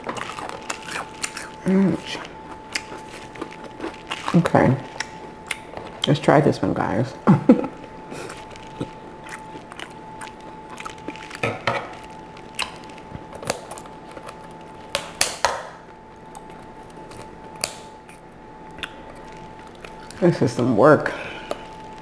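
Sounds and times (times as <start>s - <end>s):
shell cracking and crunching: 0.0s - 6.2s, 7.8s - 20.7s, 21.4s - 22.0s.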